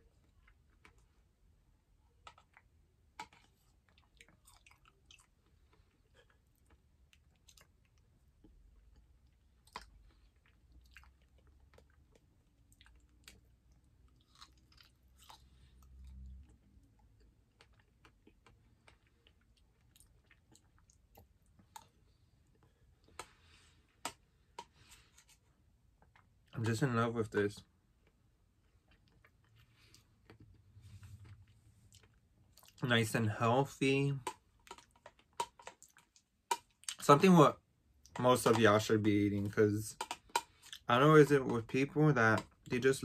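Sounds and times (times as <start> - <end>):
soft chewing and mouth clicks: 0.0 - 26.9, 27.6 - 33.0, 33.8 - 37.1, 39.5 - 41.7.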